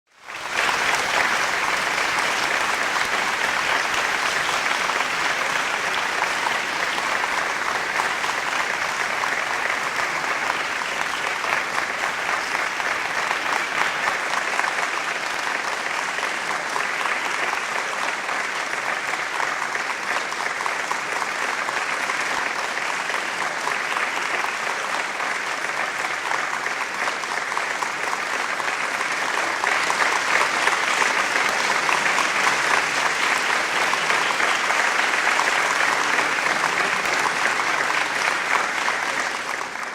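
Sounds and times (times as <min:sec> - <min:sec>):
crowd applauding: 0:00.1 - 0:39.9.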